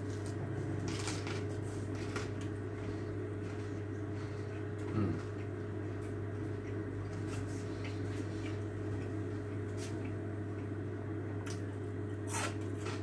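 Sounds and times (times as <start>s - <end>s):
chewing crunchy bread: 0.0s - 13.0s
steady low hum: 0.0s - 13.0s.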